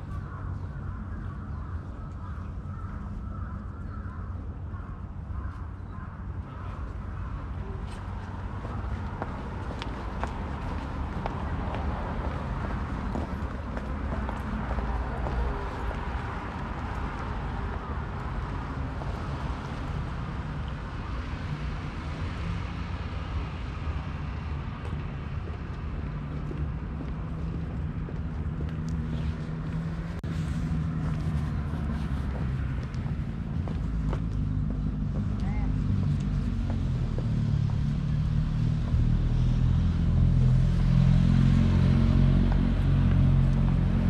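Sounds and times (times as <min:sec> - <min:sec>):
distant city traffic rumble: 0:00.0 - 0:44.0.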